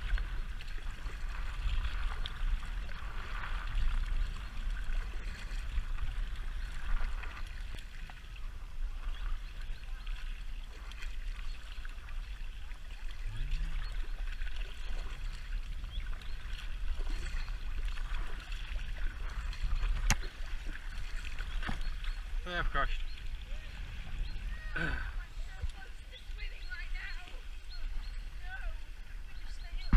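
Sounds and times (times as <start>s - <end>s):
paddle strokes splashing: 0.0s - 29.9s
water lapping against kayak: 0.0s - 29.9s
wind rumbling on microphone: 0.0s - 29.9s.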